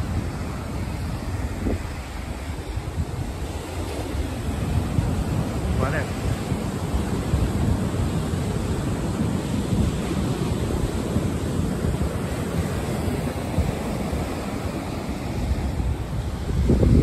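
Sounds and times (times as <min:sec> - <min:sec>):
surf breaking on rocky beach: 0:00.0 - 0:17.0
wind buffeting microphone: 0:00.0 - 0:17.0.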